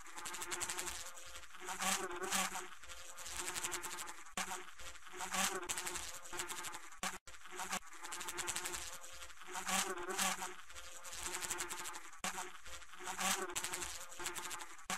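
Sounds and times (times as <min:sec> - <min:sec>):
fly buzzing: 0:00.0 - 0:14.9.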